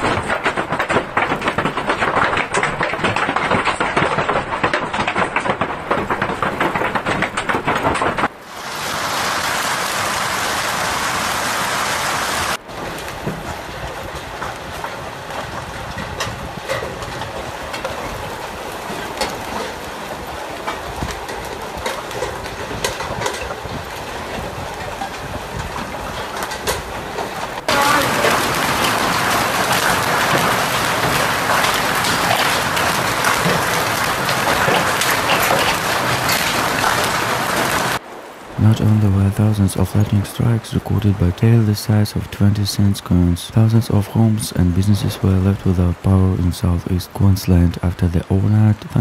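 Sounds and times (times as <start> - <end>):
hailstones clattering: 0.0 - 49.0
heavy rain: 0.0 - 49.0.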